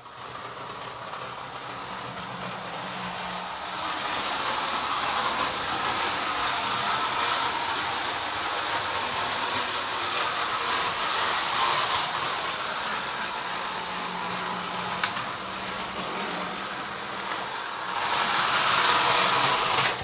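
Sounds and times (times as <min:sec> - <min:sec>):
toy train whirring on track: 0:00.0 - 0:20.0.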